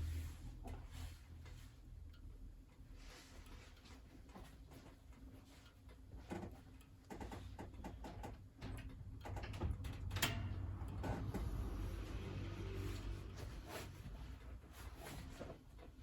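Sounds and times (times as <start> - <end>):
wood fire crackling in a stove: 0.0 - 16.0.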